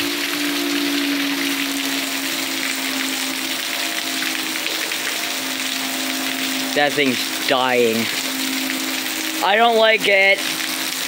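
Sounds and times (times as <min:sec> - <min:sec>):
distant warning siren: 0:00.0 - 0:11.0
heavy rain hissing: 0:00.0 - 0:11.0.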